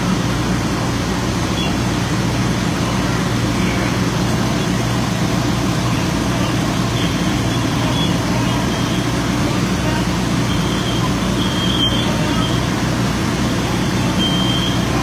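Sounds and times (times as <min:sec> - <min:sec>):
diesel engines rumbling: 0:00.0 - 0:15.0
noisy hiss: 0:00.0 - 0:15.0.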